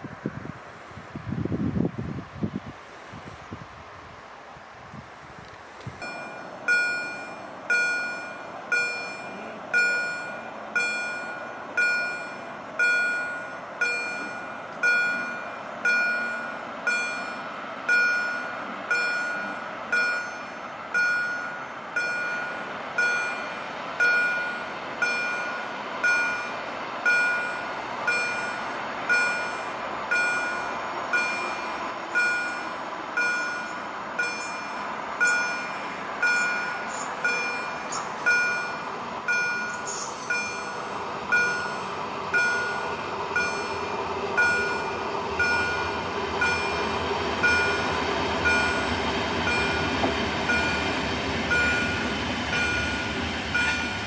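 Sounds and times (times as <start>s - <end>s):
approaching electric train: 0.0s - 54.0s
level crossing warning bell dinging: 6.0s - 54.0s.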